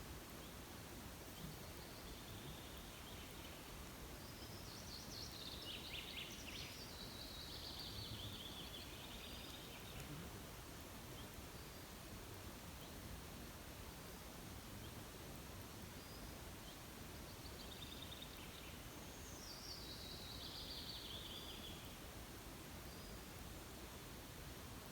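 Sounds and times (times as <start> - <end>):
faint outdoor hiss: 0.0 - 24.9.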